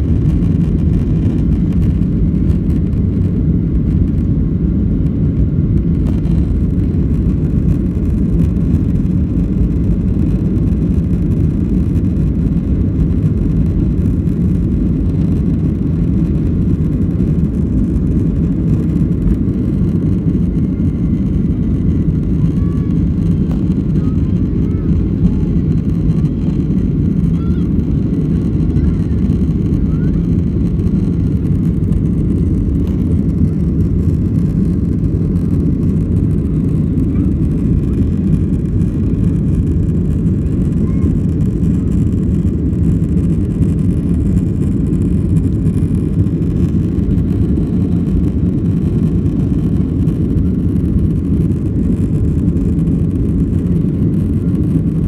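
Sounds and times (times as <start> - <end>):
jet engines low rumble: 0.0 - 55.0.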